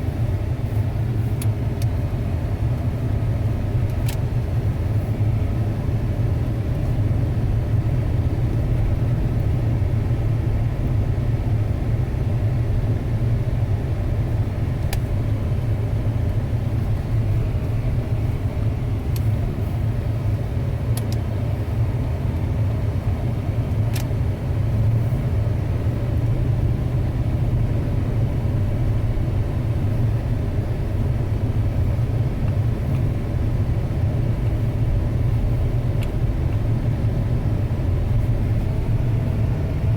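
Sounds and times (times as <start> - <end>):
vehicle low rumble: 0.0 - 39.9.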